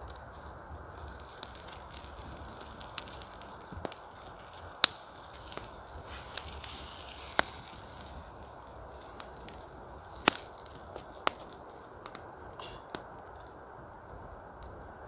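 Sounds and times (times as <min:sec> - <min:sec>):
sharp fire pops: 0:00.0 - 0:14.9
campfire crackling: 0:00.0 - 0:15.0
low steady hiss: 0:00.0 - 0:15.0.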